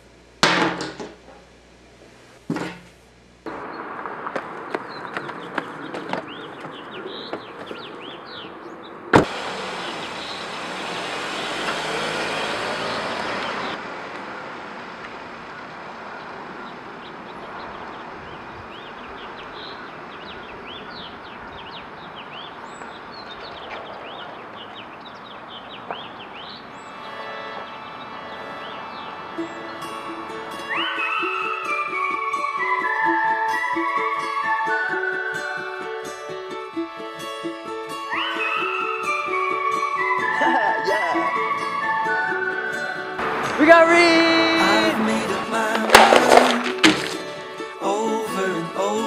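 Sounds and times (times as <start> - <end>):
street ambience: 0.0 - 49.0
birds chirping: 3.5 - 13.9, 15.9 - 49.0
vehicle passing: 3.5 - 33.8, 37.4 - 47.7.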